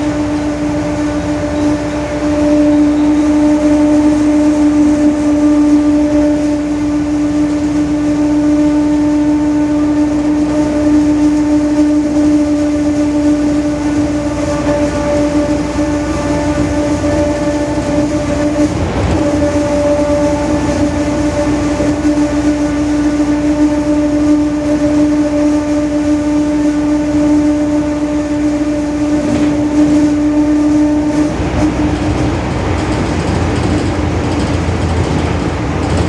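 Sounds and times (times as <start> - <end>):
bus differential droning: 0.0 - 36.0.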